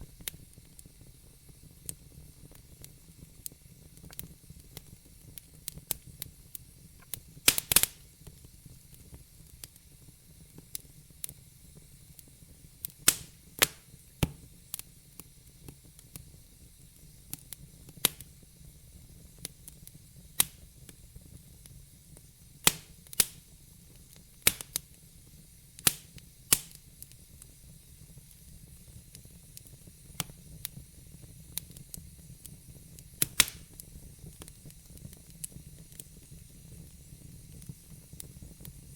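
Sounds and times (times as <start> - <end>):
logs crackling and popping in fire: 0.0 - 38.9
soft steady fire hiss: 0.0 - 38.9.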